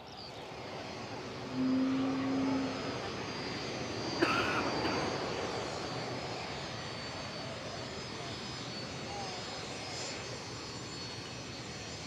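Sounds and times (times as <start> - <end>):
jet engines running at low power: 0.0 - 12.0.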